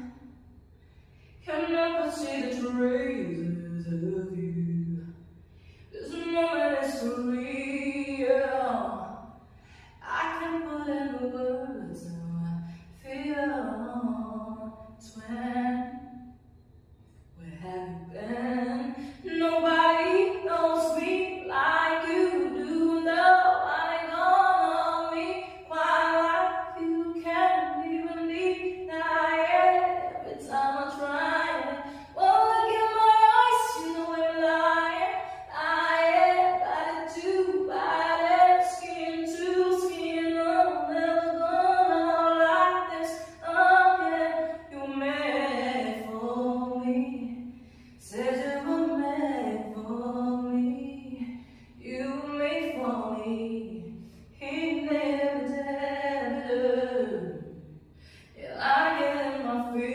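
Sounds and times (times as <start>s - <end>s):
woman singing a cappella: 0.0s - 0.4s, 1.4s - 5.2s, 5.8s - 16.3s, 17.3s - 59.9s.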